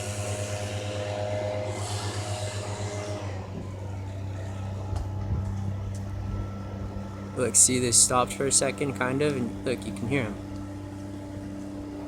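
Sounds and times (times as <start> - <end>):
propeller plane droning overhead: 0.0 - 12.0.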